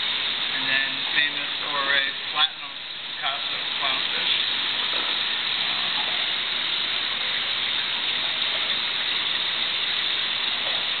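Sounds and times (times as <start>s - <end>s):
aquarium water circulating: 0.0s - 11.0s.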